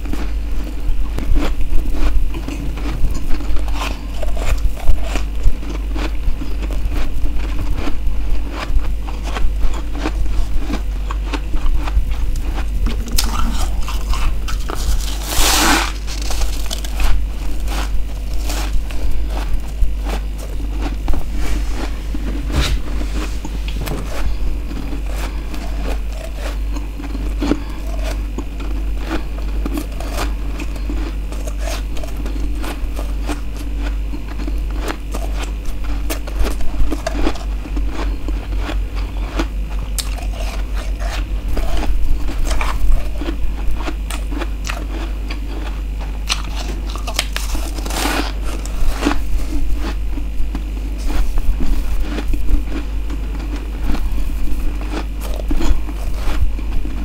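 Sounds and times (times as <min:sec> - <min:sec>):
frost being chewed and crunched: 0:00.0 - 0:57.0
low hum: 0:00.0 - 0:57.0.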